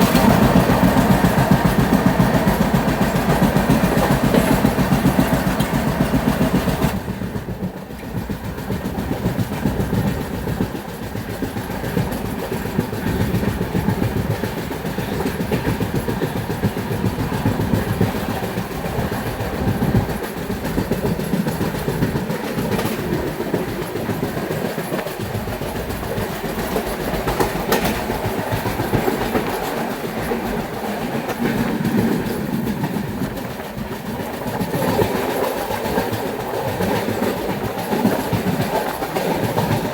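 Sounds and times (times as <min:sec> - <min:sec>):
train rumbling on track: 0:00.0 - 0:39.9
wheels clattering over rails: 0:00.0 - 0:39.9.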